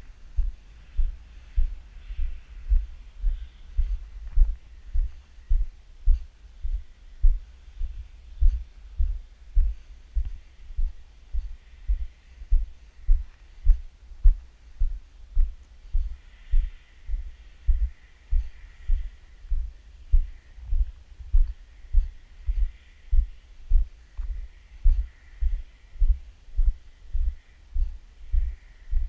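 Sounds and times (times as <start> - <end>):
faint hiss: 0.0 - 29.0.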